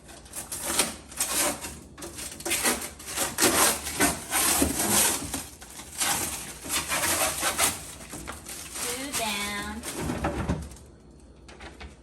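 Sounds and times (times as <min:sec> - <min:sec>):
packing material rubbing and rustling: 0:00.0 - 0:10.8.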